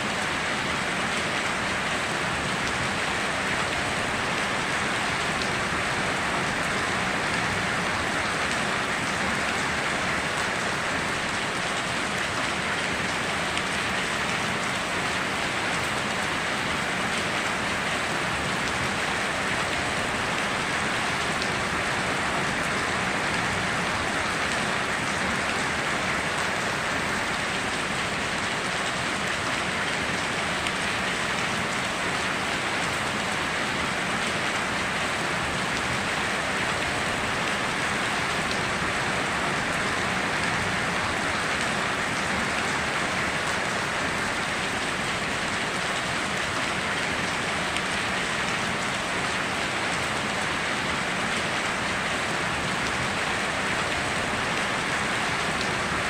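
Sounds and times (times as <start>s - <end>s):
heavy rain on foliage: 0.0s - 56.0s.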